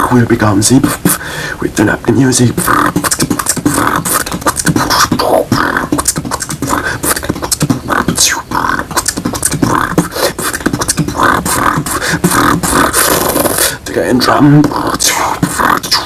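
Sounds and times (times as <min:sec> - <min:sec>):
beatboxing: 0:00.0 - 0:16.0.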